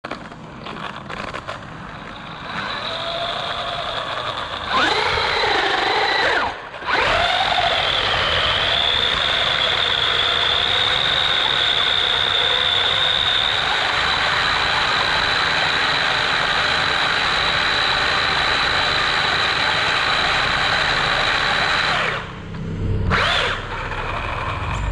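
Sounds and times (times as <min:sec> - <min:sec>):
rc car motor whining: 0:00.1 - 0:24.9.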